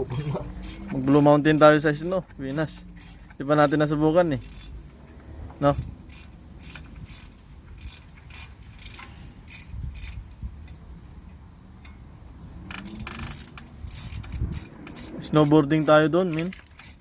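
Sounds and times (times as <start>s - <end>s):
ratchet wrench clicking: 0.1s - 4.9s, 5.6s - 10.8s, 12.6s - 17.0s.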